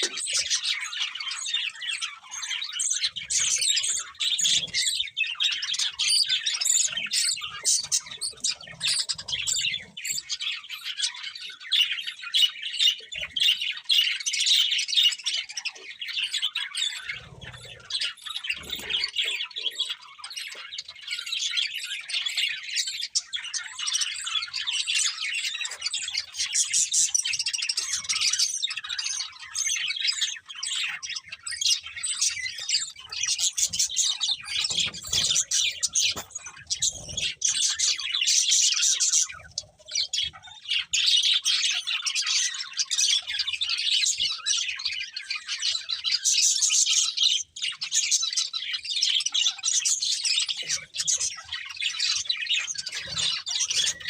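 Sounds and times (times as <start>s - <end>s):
budgerigars chirping and warbling: 0.0s - 54.0s.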